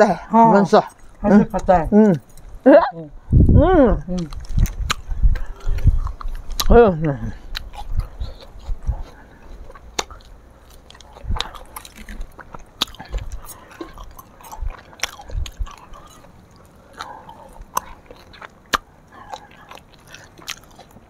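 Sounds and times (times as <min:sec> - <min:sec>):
chewing with mouth clicks: 0:04.1 - 0:21.0.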